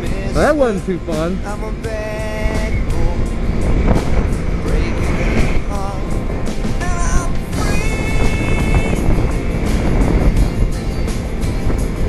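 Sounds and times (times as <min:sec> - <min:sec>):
melodic music: 0:00.0 - 0:12.0
wind rushing over microphone: 0:00.0 - 0:12.0.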